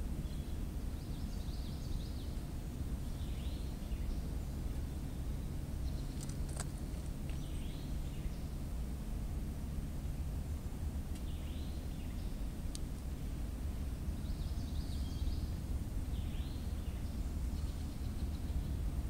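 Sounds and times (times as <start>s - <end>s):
small birds chirping: 0.0s - 8.8s, 11.1s - 19.0s
steady low rumble: 0.0s - 19.0s.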